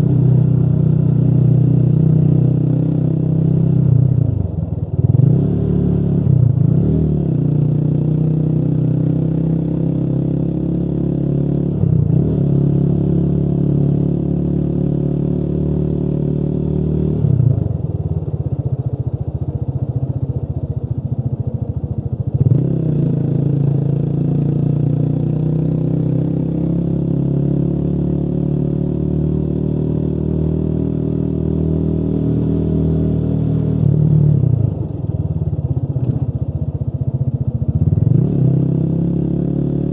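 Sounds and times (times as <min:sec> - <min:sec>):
motorcycle engine revving: 0:00.0 - 0:18.3, 0:22.3 - 0:39.9.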